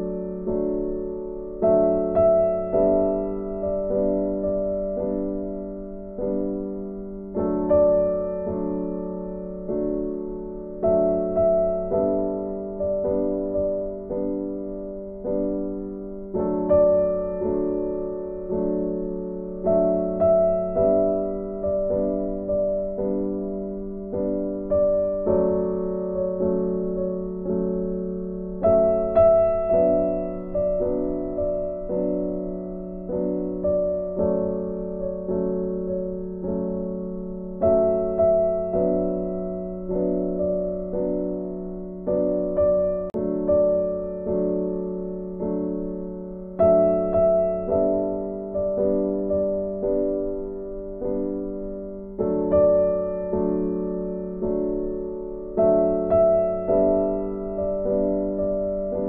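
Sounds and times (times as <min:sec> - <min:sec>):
soft piano chords: 0:00.0 - 0:59.0.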